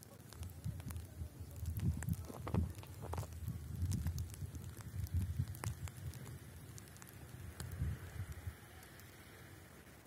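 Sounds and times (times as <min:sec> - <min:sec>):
light ticks on leaves: 0:00.0 - 0:10.0
wet snow pattering: 0:00.0 - 0:10.0.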